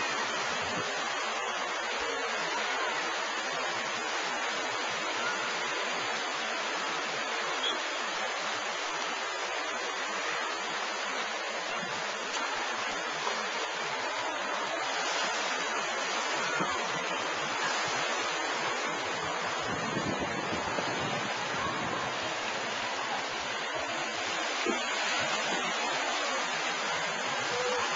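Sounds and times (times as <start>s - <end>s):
surf washing over beach: 0.0s - 27.9s.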